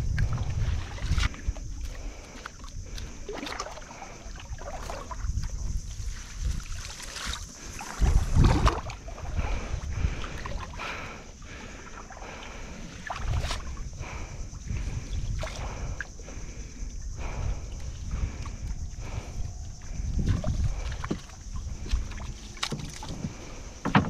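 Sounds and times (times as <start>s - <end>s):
water sloshing and splashing: 0.0s - 24.0s.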